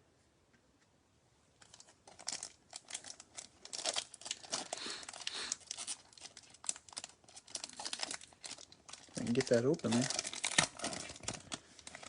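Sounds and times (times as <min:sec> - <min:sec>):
foil wrapper crinkling and tearing: 0:01.6 - 0:12.0.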